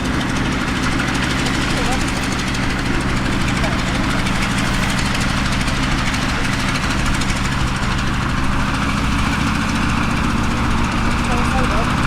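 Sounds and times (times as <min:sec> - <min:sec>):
radial aircraft engine droning: 0:00.0 - 0:12.0.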